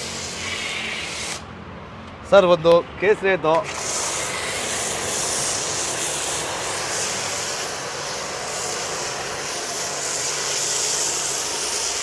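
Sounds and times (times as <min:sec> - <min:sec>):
foam spray hissing: 0:00.0 - 0:01.4, 0:03.6 - 0:12.0.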